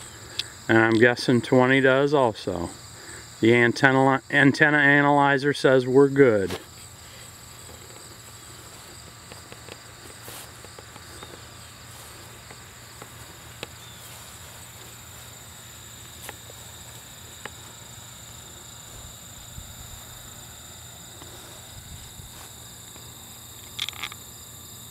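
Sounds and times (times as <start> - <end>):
crickets trilling: 0.0 - 24.9.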